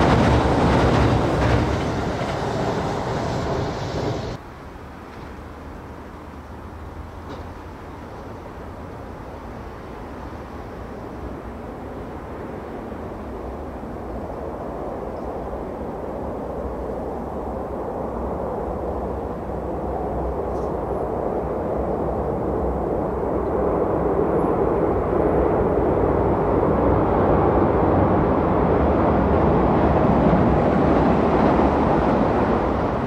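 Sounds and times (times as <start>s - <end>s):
train passing rumble: 0.0s - 33.0s.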